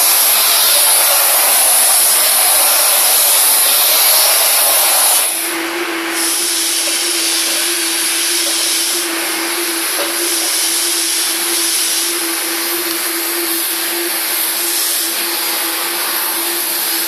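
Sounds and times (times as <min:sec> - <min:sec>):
steam cleaner hissing: 0:00.0 - 0:17.0.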